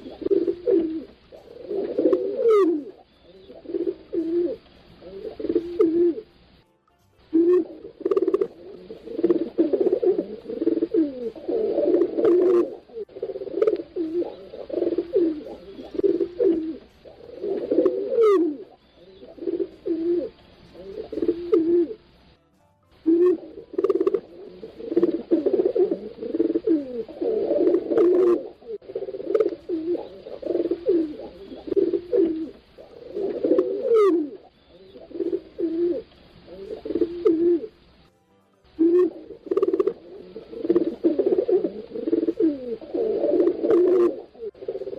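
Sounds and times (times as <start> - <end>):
pigeons cooing: 0.0 - 6.4, 7.3 - 22.1, 23.0 - 38.0, 38.8 - 44.9.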